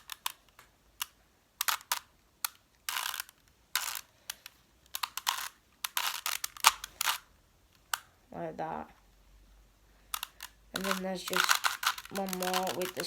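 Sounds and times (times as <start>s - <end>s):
puzzle cube faces clicking: 0.0s - 8.1s, 10.1s - 13.0s.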